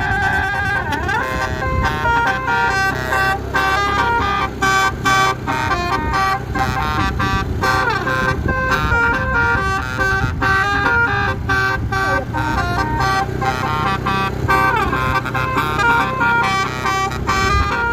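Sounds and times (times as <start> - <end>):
bus horn playing melody: 0.0 - 17.9
low engine rumble: 0.0 - 17.9.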